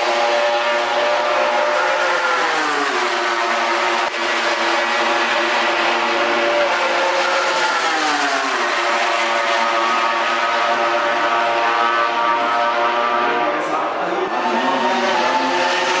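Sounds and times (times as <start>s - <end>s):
motorcycle engine at high revs: 0.0s - 13.2s, 14.4s - 16.0s.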